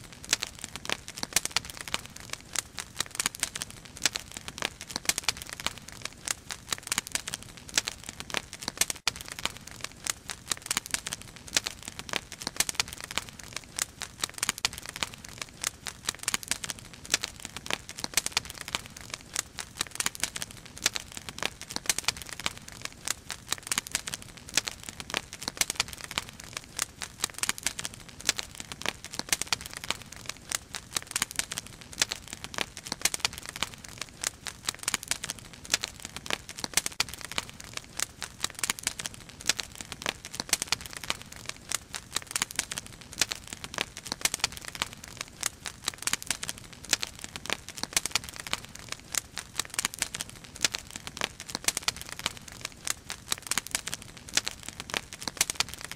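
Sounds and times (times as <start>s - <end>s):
firewood crackling and popping: 0.0s - 55.9s.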